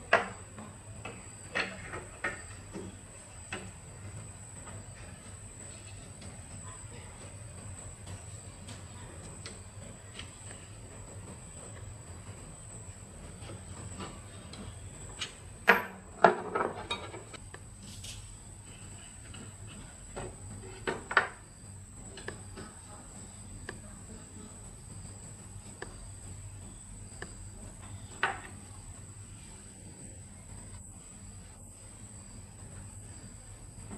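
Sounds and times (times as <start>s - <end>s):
faint high whine: 0.0s - 33.9s
steady low hum: 0.0s - 33.9s.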